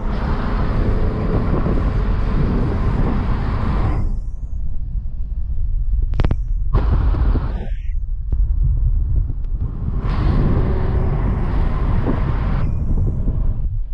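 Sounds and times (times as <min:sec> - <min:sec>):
road and wind rumble: 0:00.0 - 0:13.9.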